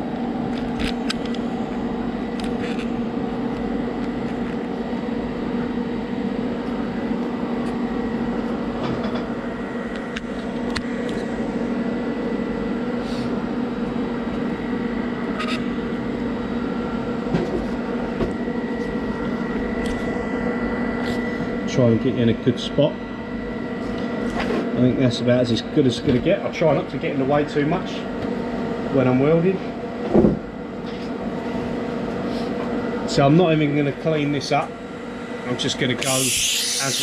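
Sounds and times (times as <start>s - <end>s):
steady machine hum: 0.0s - 25.8s, 32.8s - 37.0s.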